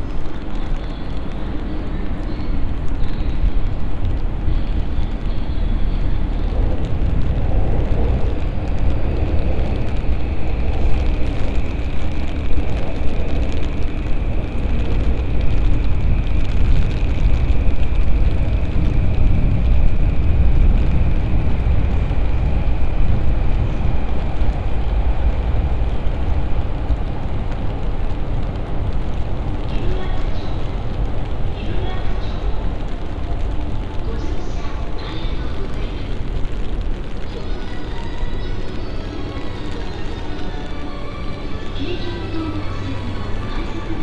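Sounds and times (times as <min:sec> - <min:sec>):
deep rumble of traffic: 0:00.0 - 0:44.0.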